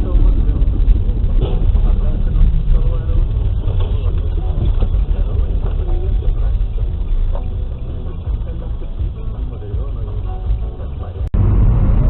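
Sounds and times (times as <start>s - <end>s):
faint voices: 0.0s - 11.3s
car engine and tyres rumbling: 0.0s - 12.0s.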